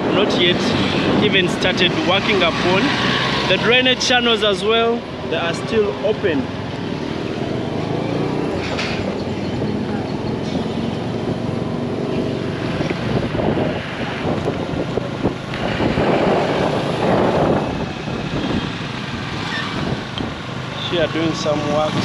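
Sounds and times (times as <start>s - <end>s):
traffic passing: 0.0s - 22.0s.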